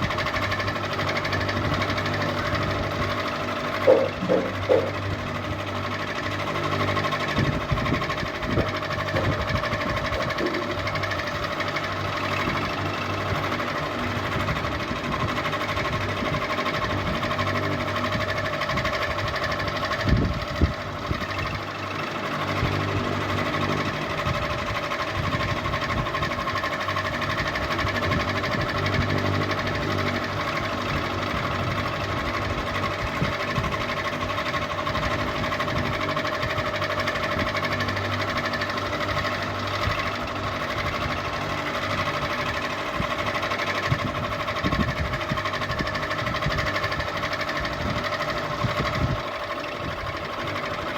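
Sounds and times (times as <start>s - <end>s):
ceiling fan humming and whirring: 0.0s - 50.9s.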